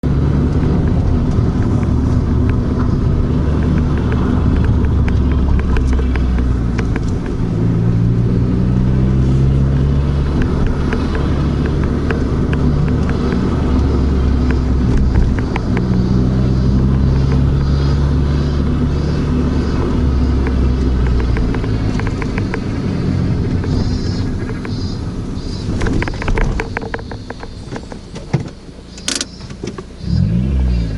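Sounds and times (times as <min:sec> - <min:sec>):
car engine humming: 0:00.0 - 0:30.9
sharp irregular ticking: 0:00.1 - 0:28.2.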